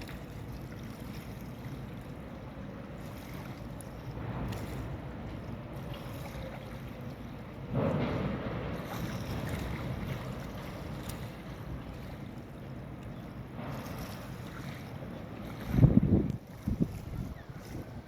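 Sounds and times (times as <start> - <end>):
steady low rumble: 0.2 - 18.0
wind buffeting microphone: 2.2 - 18.0.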